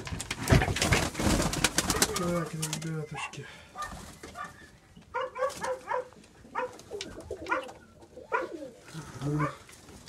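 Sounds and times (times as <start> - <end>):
pigeons cooing: 1.5 - 9.9.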